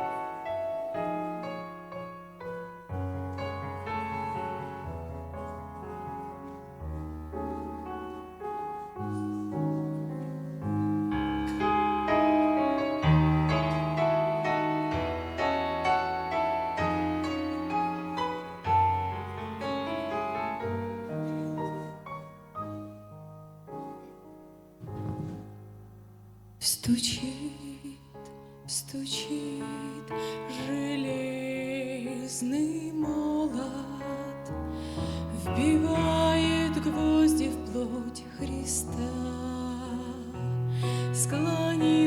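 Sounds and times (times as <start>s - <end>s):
slow solo piano hymn: 0.0s - 42.0s.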